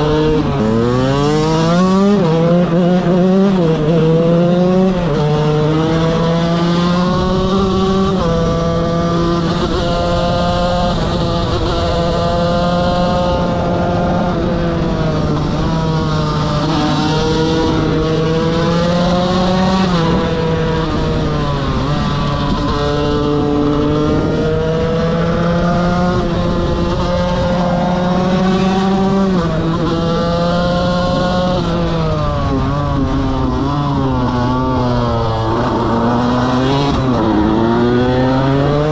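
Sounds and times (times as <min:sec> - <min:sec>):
motorcycle engine revving high: 0:00.0 - 0:38.9.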